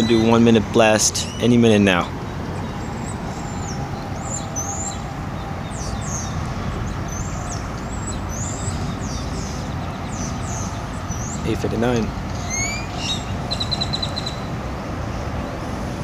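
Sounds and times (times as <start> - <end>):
small birds chirping: 0.0 - 15.8.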